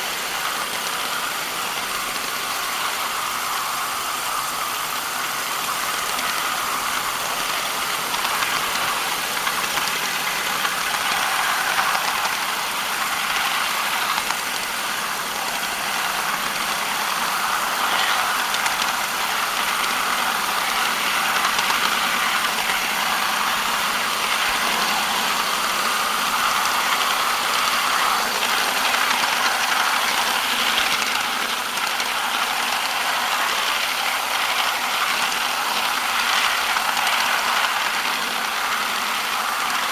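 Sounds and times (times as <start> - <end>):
miniature train rolling on track: 0.0 - 39.9.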